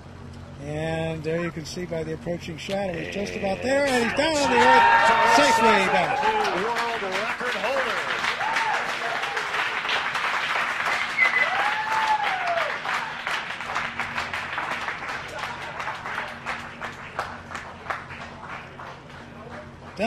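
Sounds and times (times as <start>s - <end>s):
people cheering: 2.8s - 20.0s
people applauding: 2.9s - 20.0s.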